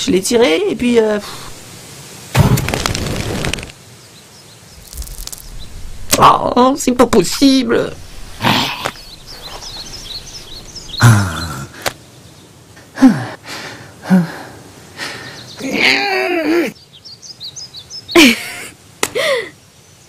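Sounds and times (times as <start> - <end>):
birds chirping: 3.1 - 20.0.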